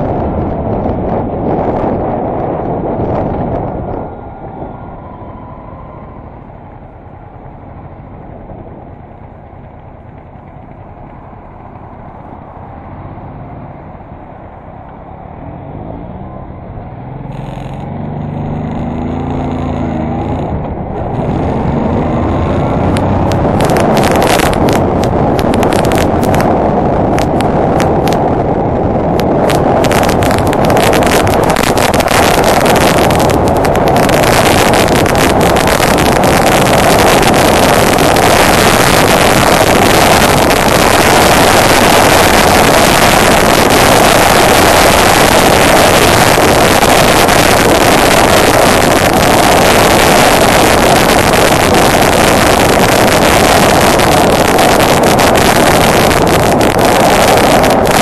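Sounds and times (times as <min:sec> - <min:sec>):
motorcycle engine running: 0:00.0 - 0:15.0, 0:17.1 - 0:58.0
wind rushing on microphone: 0:00.0 - 0:58.0.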